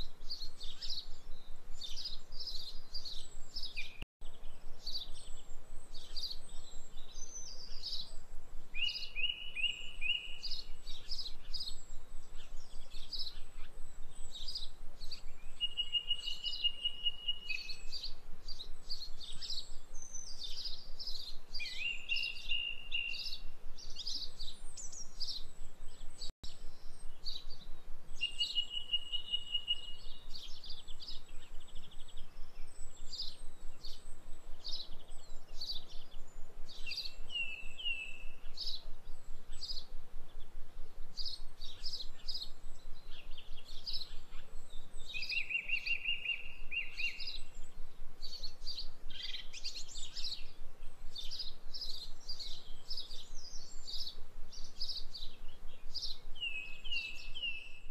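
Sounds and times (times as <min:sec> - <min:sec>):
songbirds chirping: 0:00.0 - 0:57.9
bird trill: 0:00.3 - 0:40.5, 0:41.2 - 0:50.6.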